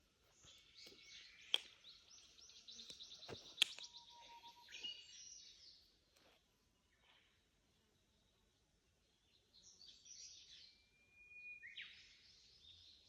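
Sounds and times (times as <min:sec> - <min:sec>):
songbird chirping and trilling: 0:00.0 - 0:06.2, 0:07.9 - 0:13.0.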